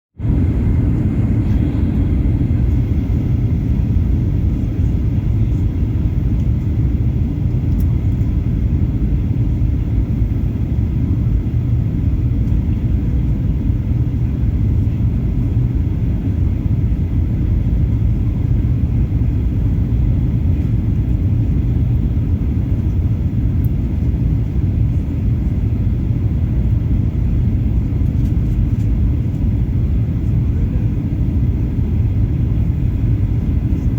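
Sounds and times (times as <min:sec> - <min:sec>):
airflow over fuselage: 0:00.2 - 0:33.9
jet engines rumbling: 0:00.2 - 0:33.9.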